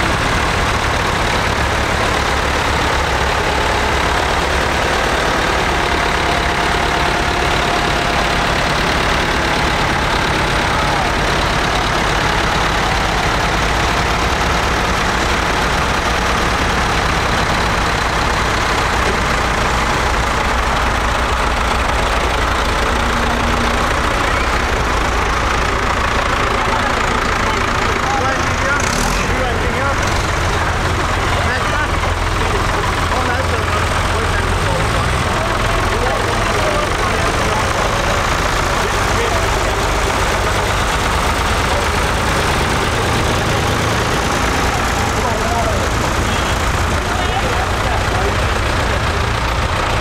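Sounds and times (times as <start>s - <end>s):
tractor engines running: 0.0s - 50.0s.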